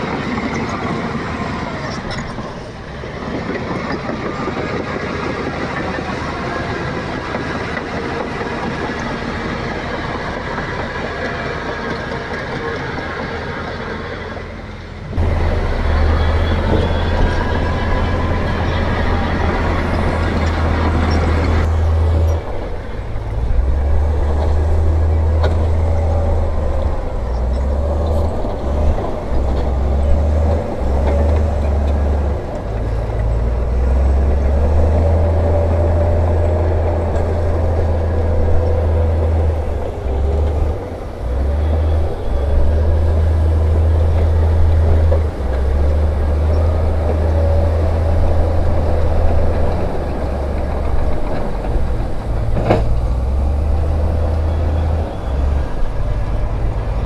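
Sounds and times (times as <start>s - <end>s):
heavy diesel machine rumbling: 0.0s - 57.0s.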